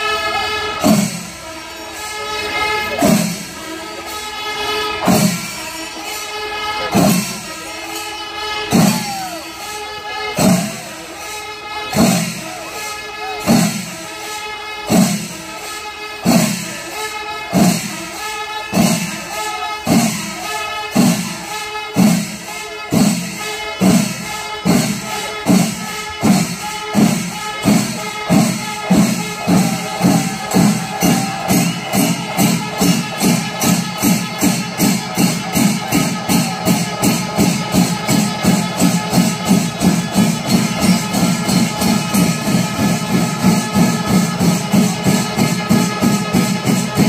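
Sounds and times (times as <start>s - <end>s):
jingling cymbals: 0.0s - 47.0s
heavy drum beat: 0.8s - 1.5s, 2.9s - 4.0s, 4.9s - 5.6s, 6.8s - 7.7s, 8.7s - 9.6s, 10.3s - 11.2s, 11.9s - 12.8s, 13.4s - 14.3s, 14.9s - 47.0s.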